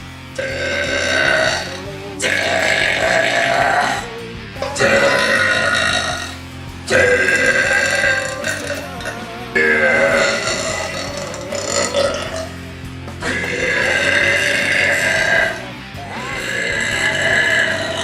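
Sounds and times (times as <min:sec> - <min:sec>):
person burping: 0:00.4 - 0:12.6, 0:13.2 - 0:18.0.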